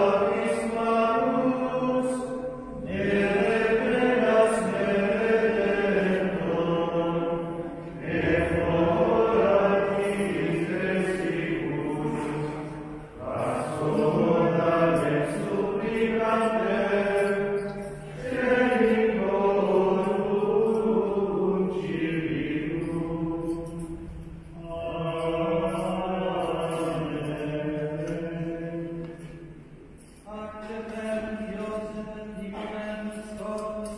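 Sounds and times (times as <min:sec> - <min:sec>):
liturgical chant: 0:00.0 - 0:33.9.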